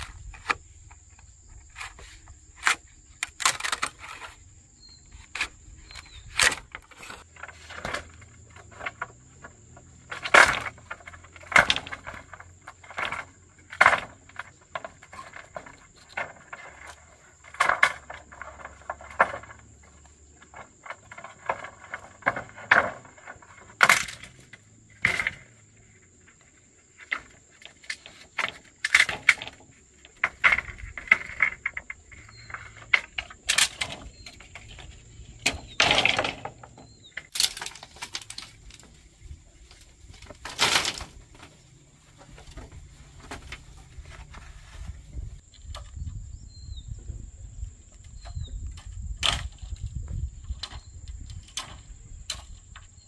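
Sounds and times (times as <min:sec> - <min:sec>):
rustling and scraping: 0:00.0 - 0:53.0
sharp knocks and cracks: 0:01.5 - 0:04.4, 0:05.2 - 0:25.6, 0:27.0 - 0:39.0, 0:39.7 - 0:44.8, 0:48.2 - 0:52.9.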